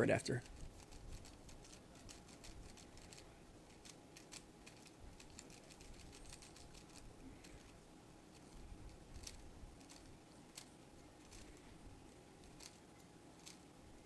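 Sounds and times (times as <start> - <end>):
speed cube clicking: 0.4 - 11.6, 12.4 - 12.8, 13.4 - 13.6.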